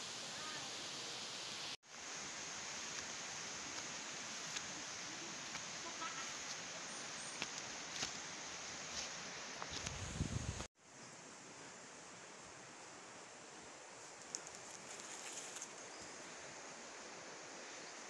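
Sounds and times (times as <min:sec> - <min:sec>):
forest ambience hiss: 0:00.0 - 0:18.0.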